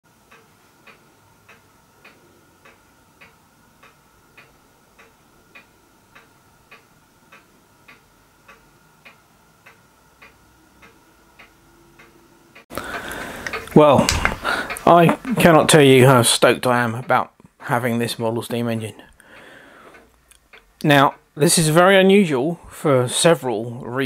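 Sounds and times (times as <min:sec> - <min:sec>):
faint steady hum: 0:00.1 - 0:24.0
mechanical ticking: 0:00.2 - 0:17.4, 0:19.3 - 0:22.1.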